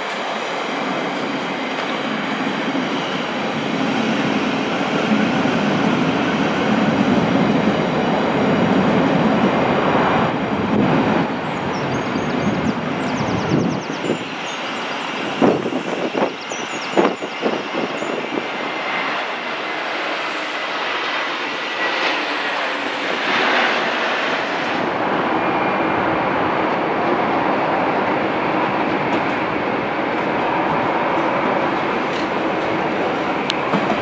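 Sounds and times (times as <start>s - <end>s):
steady train rail noise: 0.0s - 34.0s.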